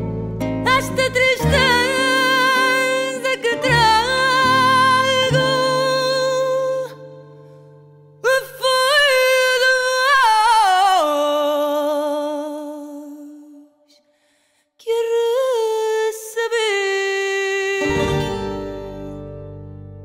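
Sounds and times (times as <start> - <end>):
woman singing with vibrato: 0.0 - 7.4, 8.2 - 13.8, 14.8 - 19.2.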